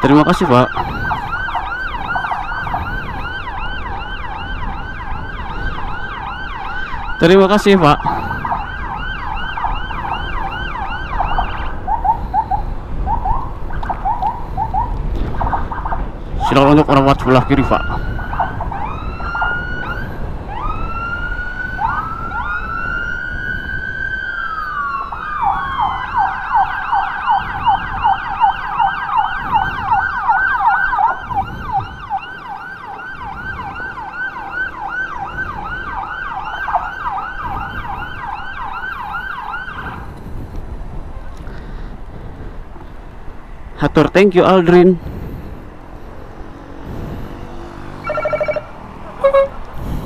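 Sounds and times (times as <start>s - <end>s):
electronic emergency siren: 0.0s - 16.2s, 17.0s - 40.1s, 47.7s - 49.7s
engine and road noise: 0.0s - 50.0s.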